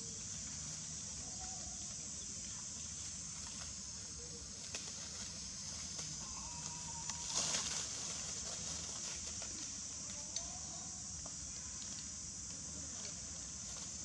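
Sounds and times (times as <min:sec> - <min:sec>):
patter on dry leaves: 0:00.0 - 0:14.0
steady high hiss: 0:00.0 - 0:14.0.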